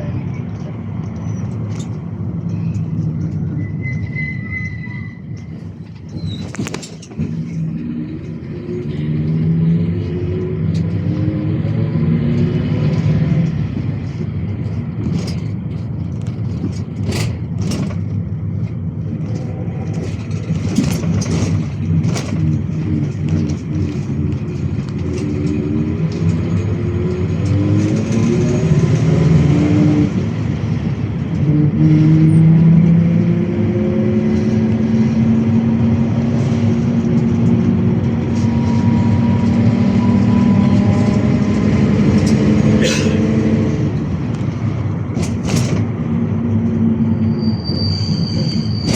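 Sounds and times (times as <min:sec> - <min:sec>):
minibus engine accelerating: 0:00.0 - 0:48.9.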